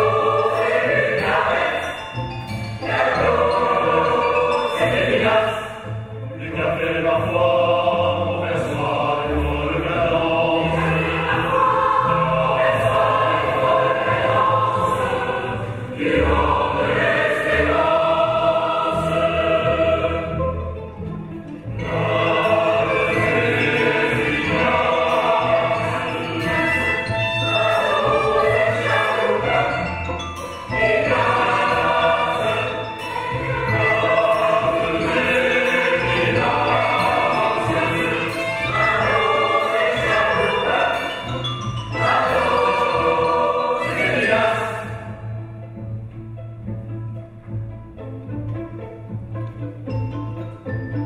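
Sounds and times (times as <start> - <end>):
large choir singing: 0.0 - 20.7, 21.7 - 45.5
string orchestra: 0.0 - 51.0.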